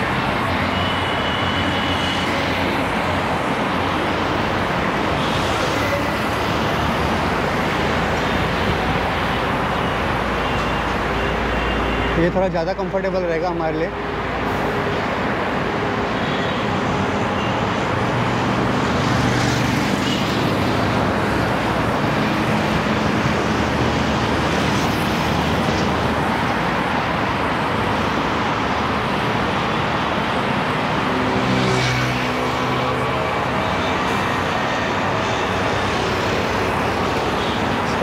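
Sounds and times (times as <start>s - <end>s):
passing vehicles engine hum: 0.0s - 38.0s
road noise from bicycle: 0.0s - 38.0s.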